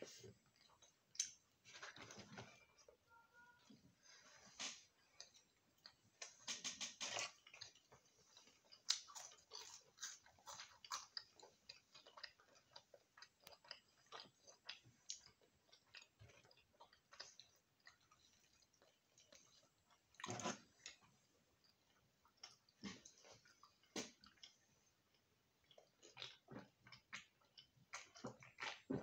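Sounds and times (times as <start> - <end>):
children chewing food: 0.0 - 29.0.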